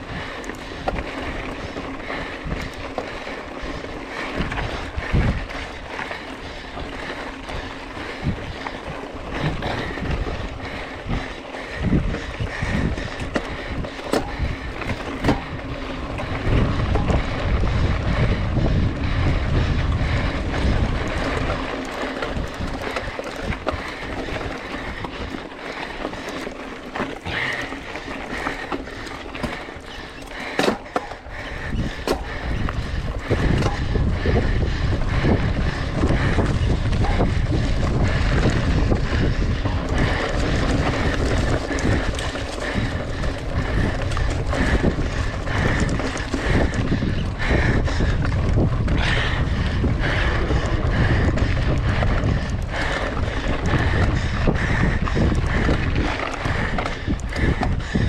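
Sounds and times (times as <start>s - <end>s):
bike knocks and rattles: 0.0s - 58.0s
wind buffeting microphone: 0.0s - 58.0s.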